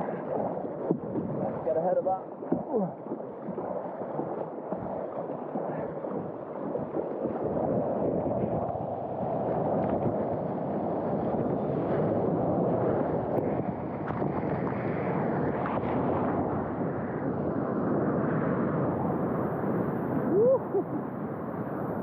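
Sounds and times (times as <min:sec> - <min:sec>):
rushing surf water: 0:00.0 - 0:22.0.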